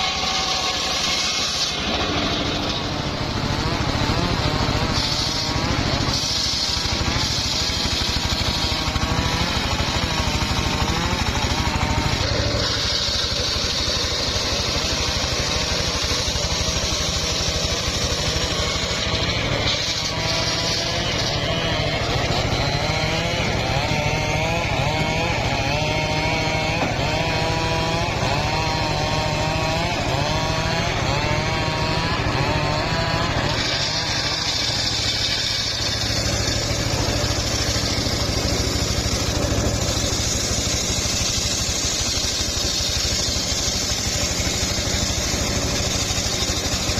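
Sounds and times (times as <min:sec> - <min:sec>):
circular sawmill running: 0:00.0 - 0:46.9.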